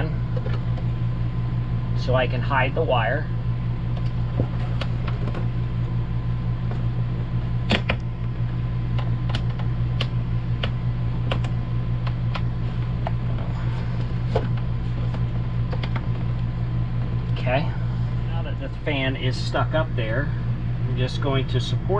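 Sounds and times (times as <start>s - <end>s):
low appliance hum: 0.0s - 21.9s.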